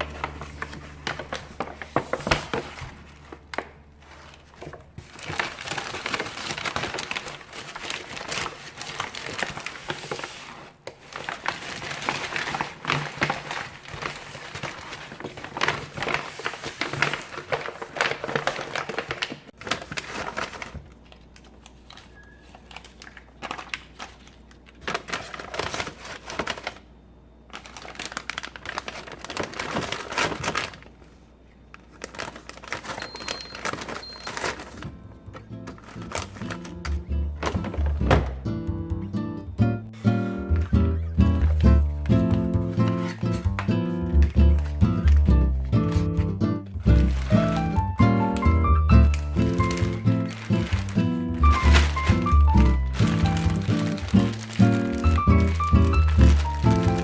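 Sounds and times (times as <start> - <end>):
plastic packaging crinkling: 0.0 - 38.2, 40.2 - 57.0.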